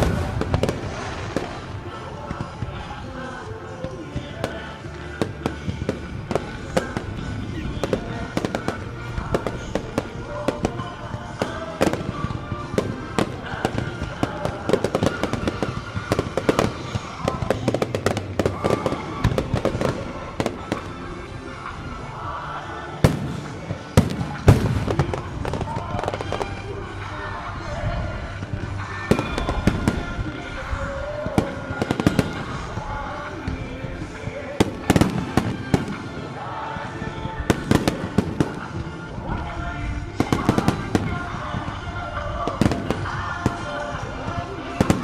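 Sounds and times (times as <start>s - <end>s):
fireworks bursting and crackling: 0.0s - 45.0s
music: 0.0s - 45.0s.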